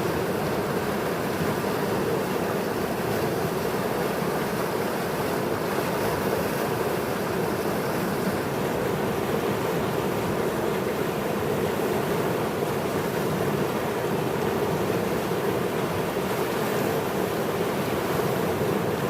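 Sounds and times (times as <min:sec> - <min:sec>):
flooded river rushing: 0:00.0 - 0:19.0.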